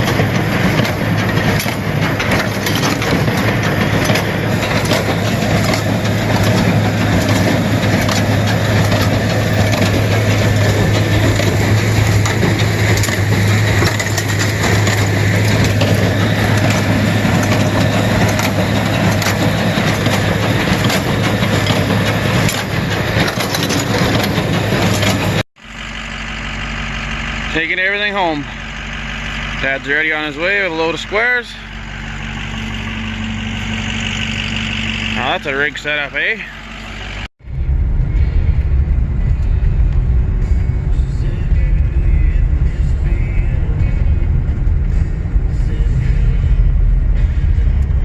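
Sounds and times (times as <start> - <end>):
baler mechanical noise: 0.0 - 48.0
tractor engine hum: 0.0 - 48.0.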